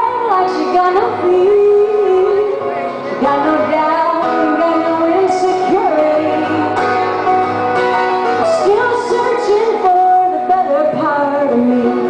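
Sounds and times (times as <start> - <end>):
woman singing folk song: 0.0 - 2.6, 3.2 - 7.4, 8.2 - 12.0
acoustic instruments playing: 0.0 - 12.0
strummed acoustic guitar: 0.1 - 12.0.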